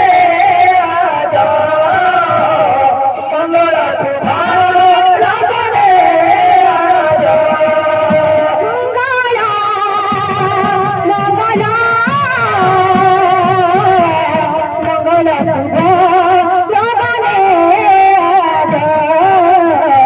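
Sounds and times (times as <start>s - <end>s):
barrel drums beating fast: 0.0s - 20.0s
woman singing through microphone: 0.0s - 20.0s.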